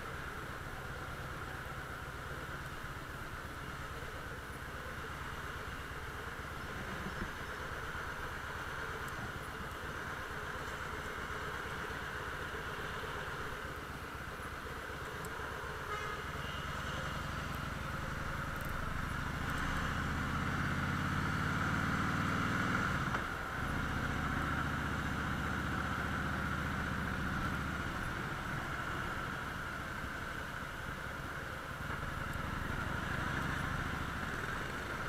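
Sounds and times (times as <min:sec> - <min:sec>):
motorcycle engine running: 0:00.0 - 0:35.0
wind and road hiss: 0:00.0 - 0:35.0.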